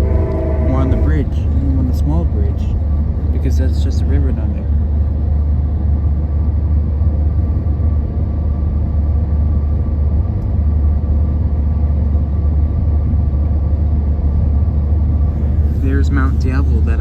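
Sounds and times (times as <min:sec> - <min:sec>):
faint steady whine: 0:00.0 - 0:17.0
passenger train rumbling: 0:00.0 - 0:17.0.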